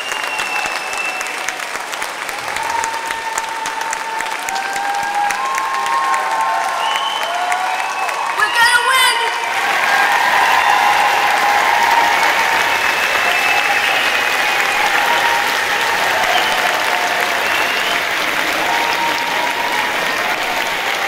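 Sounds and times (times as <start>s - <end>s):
large crowd applauding: 0.0s - 21.0s.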